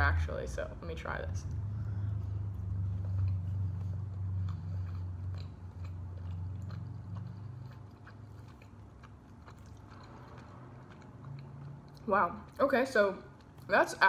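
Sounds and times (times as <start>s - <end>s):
low steady hum: 0.0s - 14.0s
person chewing food: 1.4s - 12.6s, 13.3s - 13.7s.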